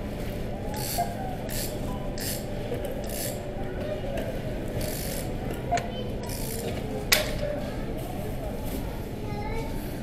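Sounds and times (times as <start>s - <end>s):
store background noise: 0.0s - 10.0s.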